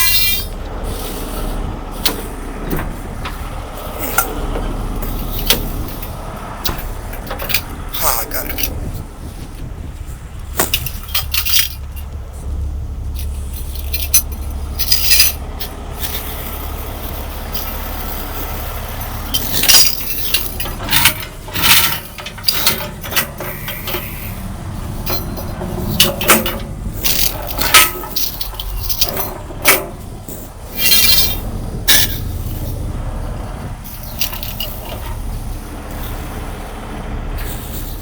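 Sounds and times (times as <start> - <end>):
sharp metallic clanks: 0.0 - 9.1, 10.5 - 12.1, 13.2 - 36.7
heavy truck engine rumbling: 0.0 - 38.0.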